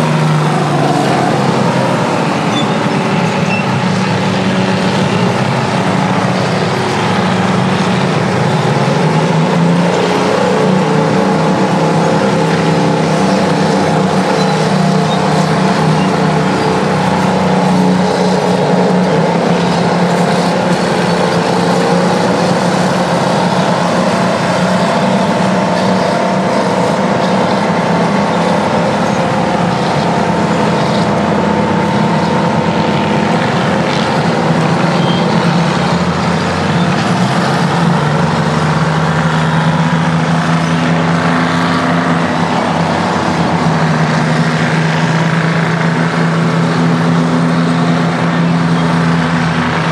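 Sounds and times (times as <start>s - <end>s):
diesel engine running loudly: 0.0s - 49.9s.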